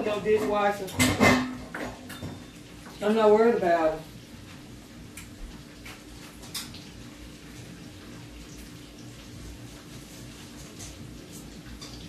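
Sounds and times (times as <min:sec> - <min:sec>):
vegetables sizzling in a pan: 0:01.9 - 0:12.0.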